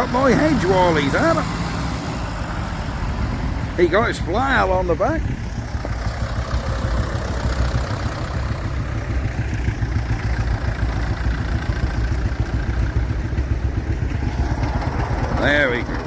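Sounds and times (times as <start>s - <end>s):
tractor engines rumbling: 0.0s - 16.0s.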